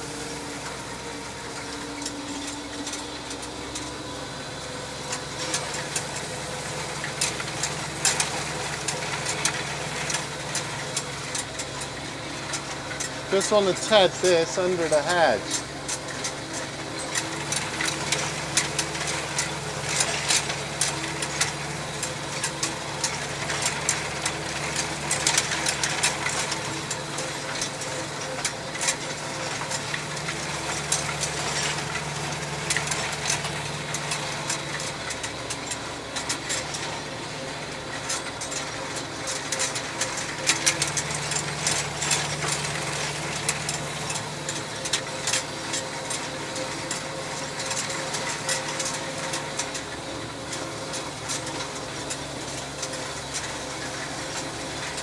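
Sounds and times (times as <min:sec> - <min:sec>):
tractor engine running: 0:00.0 - 0:55.0
tedder clicks and rattles: 0:00.6 - 0:04.1, 0:05.0 - 0:55.0.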